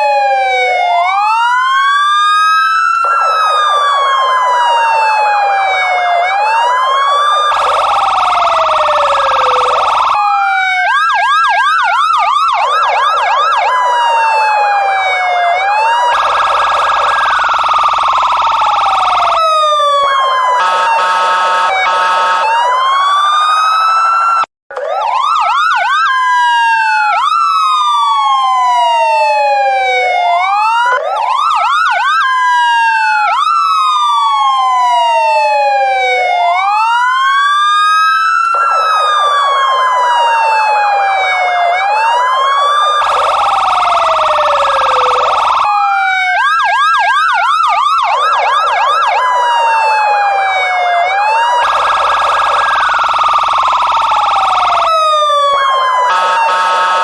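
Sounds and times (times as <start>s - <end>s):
police siren wailing and yelping: 0.0s - 57.0s.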